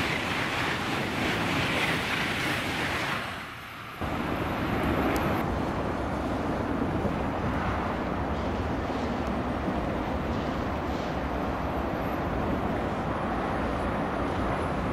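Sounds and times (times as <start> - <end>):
high-speed train passing: 0.0 - 14.9
motorway traffic noise: 0.0 - 14.9.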